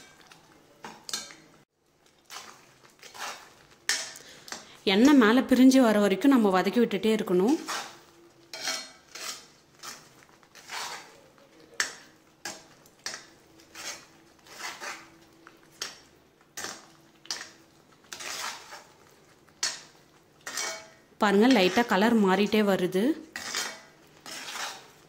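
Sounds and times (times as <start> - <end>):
metal spoon scraping pan: 1.0 - 1.4, 2.2 - 5.4, 7.3 - 22.6, 23.2 - 25.0.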